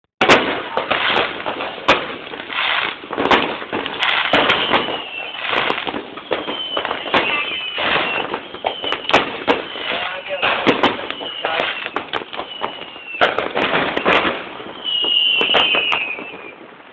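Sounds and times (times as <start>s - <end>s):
falling firework whistles: 0.2s - 16.9s
fireworks bangs and crackling: 0.2s - 16.9s.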